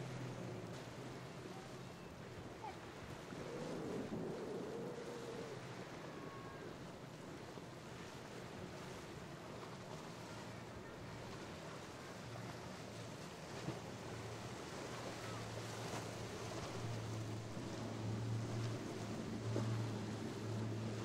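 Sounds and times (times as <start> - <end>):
boat engine drone: 0.0 - 21.0
surf: 0.0 - 21.0
wind: 0.0 - 21.0.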